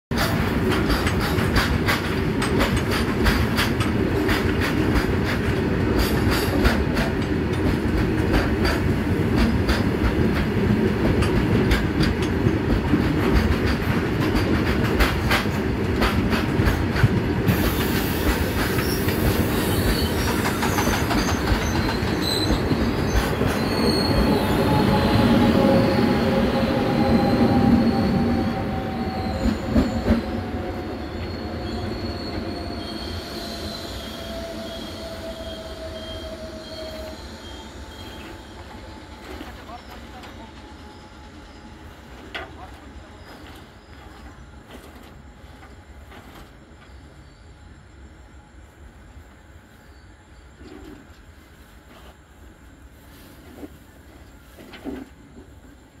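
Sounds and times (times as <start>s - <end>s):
train wheels clattering and squealing: 0.1s - 47.6s, 49.9s - 51.3s, 53.4s - 55.9s.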